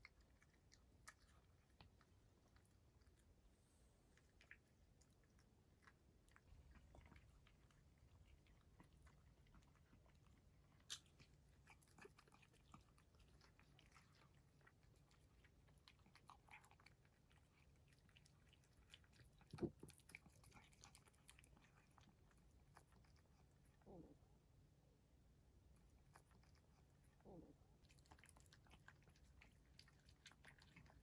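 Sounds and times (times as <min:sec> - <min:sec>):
cat chewing food: 0:00.0 - 0:24.6, 0:25.4 - 0:31.0.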